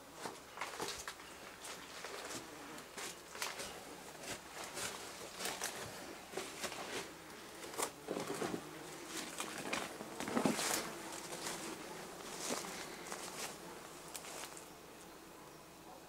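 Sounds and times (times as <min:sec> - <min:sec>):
brambles rustling and crackling: 0:00.2 - 0:14.7
footsteps through undergrowth: 0:00.2 - 0:14.7.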